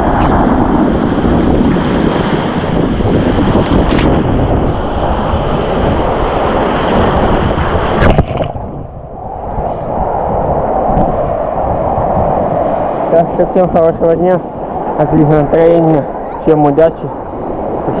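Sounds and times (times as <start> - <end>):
stormy sea surf: 0.0 - 18.0
wind buffeting microphone: 0.0 - 18.0.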